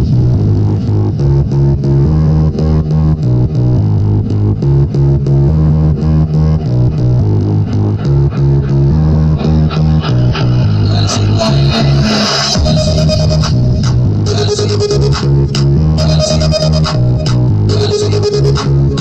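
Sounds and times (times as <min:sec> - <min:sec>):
loud music with heavy bass: 0:00.0 - 0:19.0.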